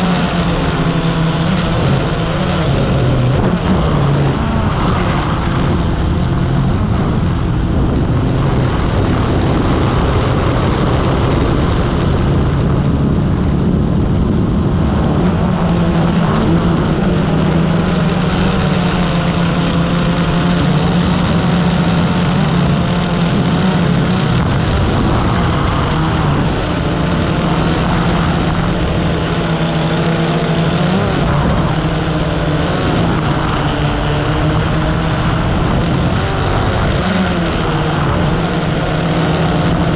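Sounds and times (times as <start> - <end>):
drone propellers buzzing: 0.0 - 39.9
wind noise: 0.0 - 39.9.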